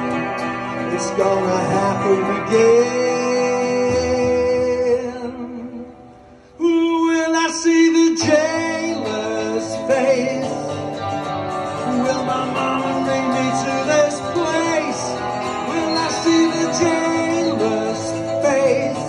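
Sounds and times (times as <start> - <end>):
rock music on electric and acoustic guitars: 0.0 - 6.6, 7.6 - 19.0.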